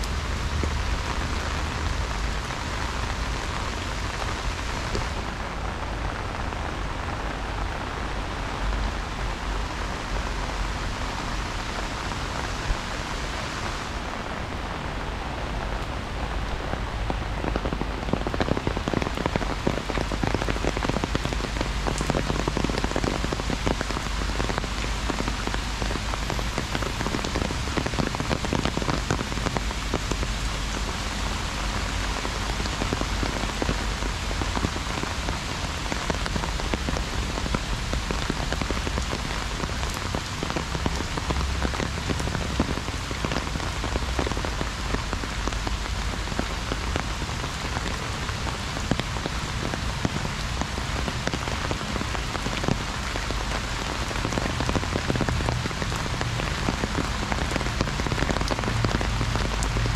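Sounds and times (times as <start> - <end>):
heavy rain on an umbrella: 0.0 - 59.9.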